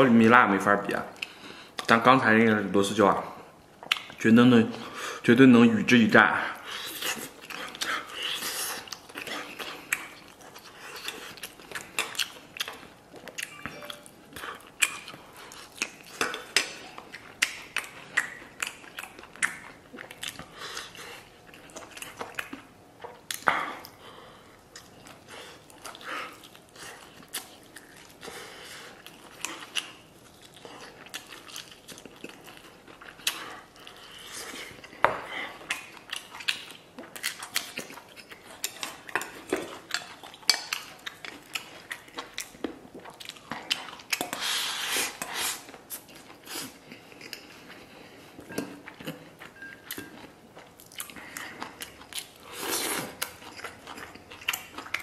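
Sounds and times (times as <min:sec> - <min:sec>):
chewing meat: 0:06.5 - 0:55.0.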